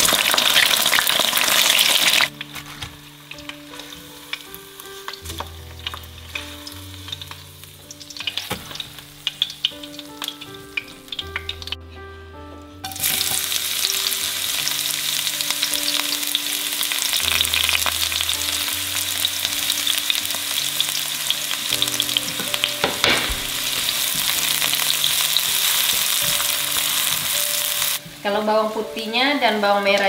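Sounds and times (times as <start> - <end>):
shallots sizzling in hot oil: 0.0 - 11.8, 12.8 - 30.0.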